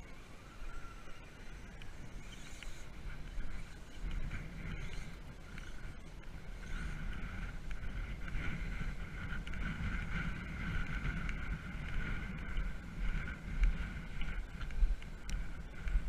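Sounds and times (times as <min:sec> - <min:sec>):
rc truck motor whine: 0:00.0 - 0:16.0
wind buffeting microphone: 0:00.0 - 0:16.0.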